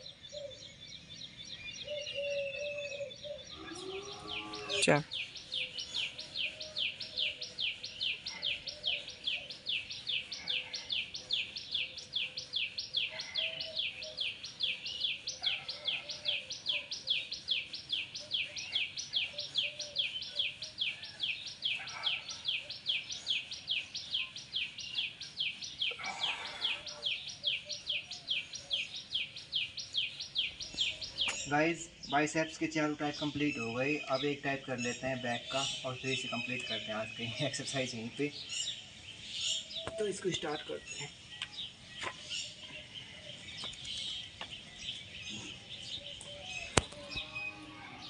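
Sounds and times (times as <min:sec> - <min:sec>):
bird chirping: 0:00.0 - 0:48.0.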